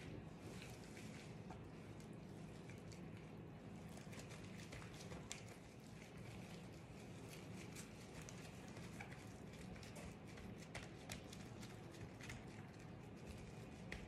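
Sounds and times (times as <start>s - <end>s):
fingers patting bread dough: 0.0s - 14.0s
low steady hum: 0.0s - 14.0s.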